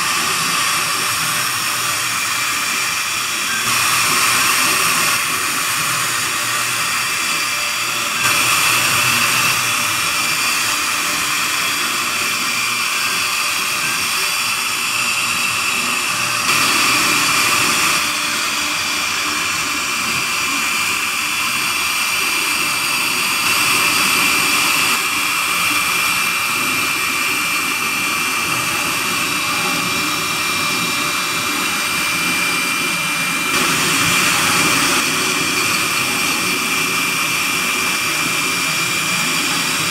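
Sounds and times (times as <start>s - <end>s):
cnc router spindle whining: 0.0s - 39.9s.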